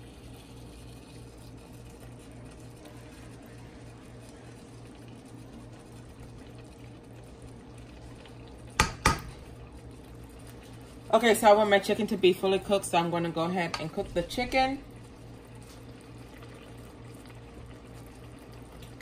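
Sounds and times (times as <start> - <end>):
chicken bubbling in a pot: 0.0 - 19.0.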